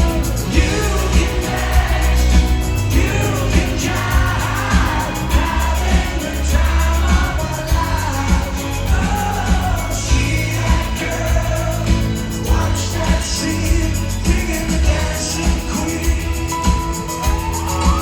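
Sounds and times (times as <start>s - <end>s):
live band with singer: 0.0s - 18.0s.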